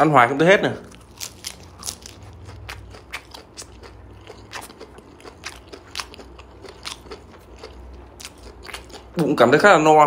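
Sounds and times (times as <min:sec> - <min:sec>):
crunchy chewing of lettuce: 0:00.6 - 0:09.6.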